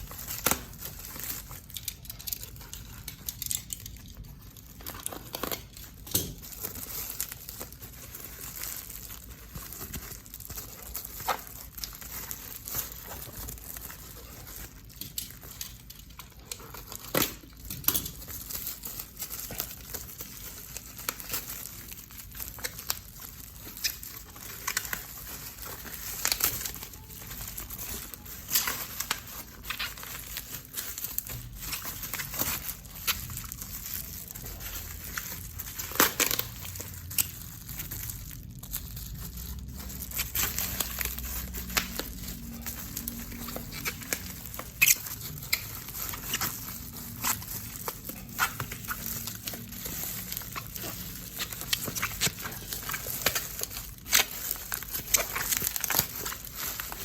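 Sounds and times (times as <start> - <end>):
packaging crinkling and rustling: 0.0 - 57.0.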